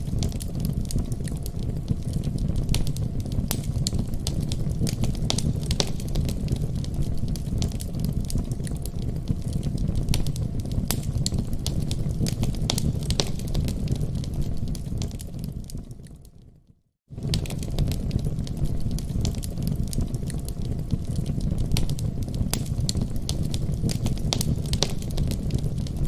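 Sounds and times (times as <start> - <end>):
fireplace fire crackling: 0.0 - 26.0.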